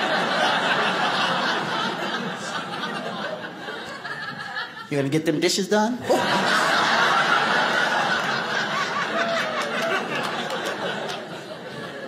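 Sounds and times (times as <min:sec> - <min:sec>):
audience laughing: 0:00.0 - 0:05.2, 0:06.0 - 0:12.0.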